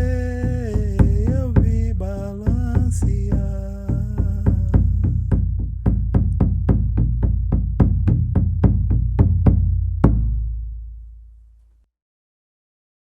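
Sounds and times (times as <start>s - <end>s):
drum beating: 0.0s - 10.6s.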